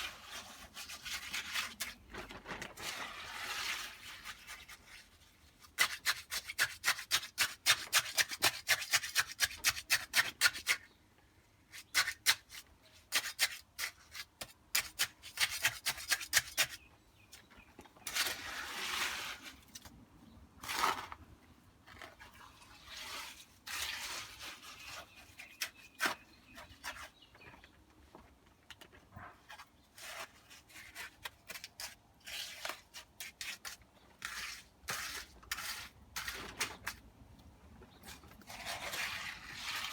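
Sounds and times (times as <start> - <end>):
hand tool scraping wet concrete: 0.0 - 10.9, 11.7 - 16.9, 18.0 - 19.9, 20.6 - 21.2, 21.9 - 27.2, 29.4 - 37.0, 38.0 - 39.9.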